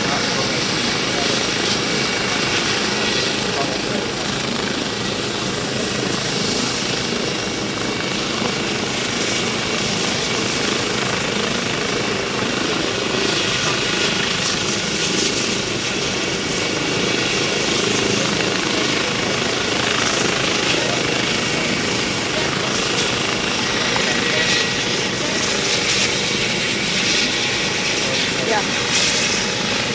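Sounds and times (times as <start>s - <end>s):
helicopter rotor and turbine: 0.0s - 29.9s.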